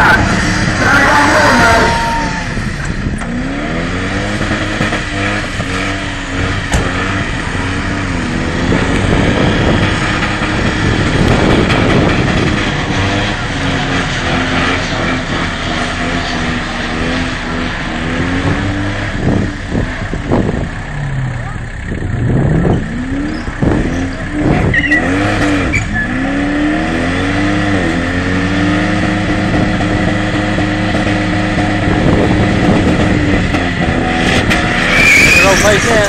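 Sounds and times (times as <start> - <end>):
engine revving hard: 0.0 - 36.0.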